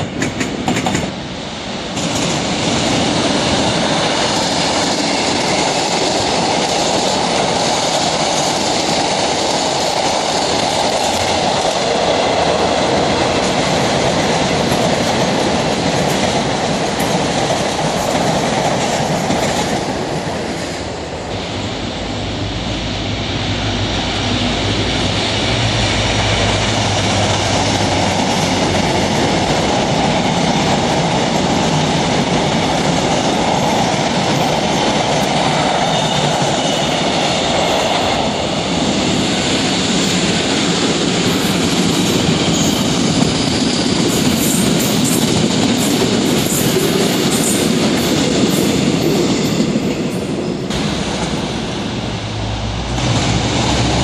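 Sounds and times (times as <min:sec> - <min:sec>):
train wheels clicking: 0:00.0 - 0:01.2, 0:01.9 - 0:20.8, 0:24.2 - 0:54.0
train wheels rumbling on rail: 0:00.0 - 0:54.0.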